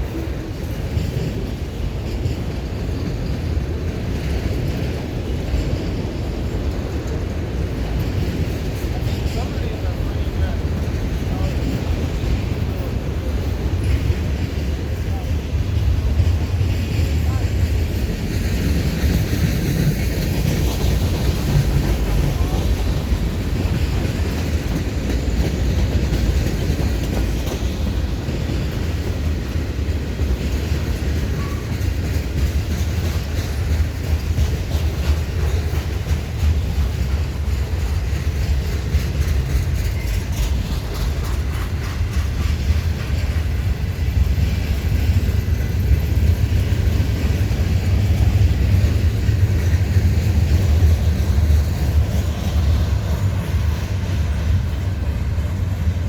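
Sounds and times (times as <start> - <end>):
freight train rumbling past: 0.0 - 56.0
wheels clicking over rail joints: 0.0 - 56.0.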